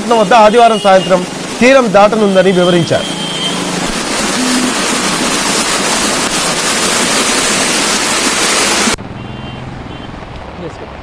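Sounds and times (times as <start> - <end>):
heavy rain pouring: 0.0 - 9.0
wet-street traffic: 0.0 - 11.0.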